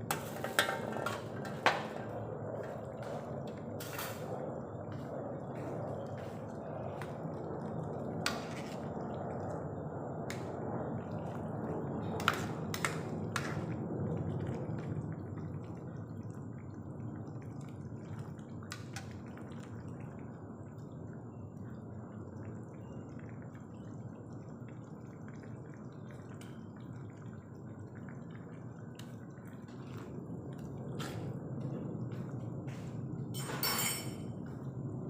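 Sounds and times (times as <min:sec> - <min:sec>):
broth simmering and bubbling: 0:00.0 - 0:35.0.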